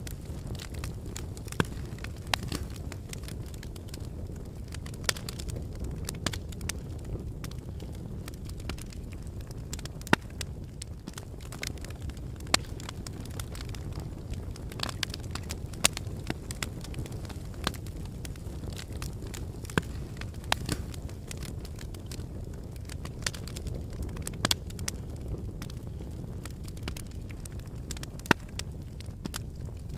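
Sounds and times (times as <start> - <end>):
fire crackling in a fireplace: 0.0 - 29.9.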